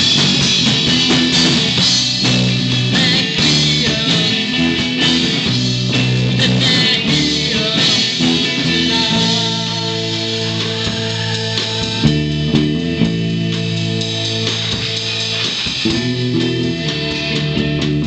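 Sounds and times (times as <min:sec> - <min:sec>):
bass chords: 0:00.0 - 0:18.0
drums and cymbals: 0:00.0 - 0:18.0
electric guitars: 0:00.0 - 0:18.0.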